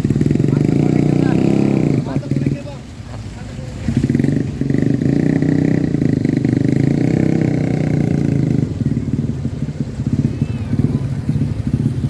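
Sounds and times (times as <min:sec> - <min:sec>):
vehicle engine running loudly: 0:00.0 - 0:12.0.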